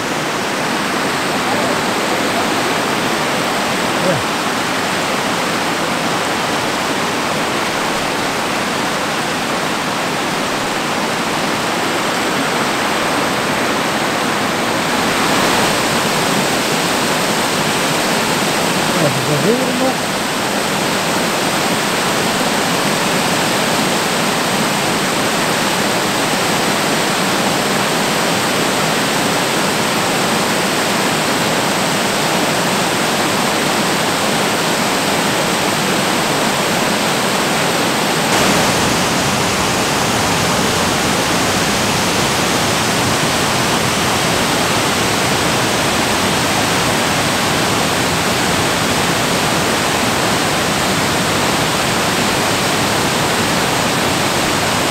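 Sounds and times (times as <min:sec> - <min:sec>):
water rushing over a weir: 0:00.0 - 0:54.9
waterfall over rock: 0:00.0 - 0:54.9.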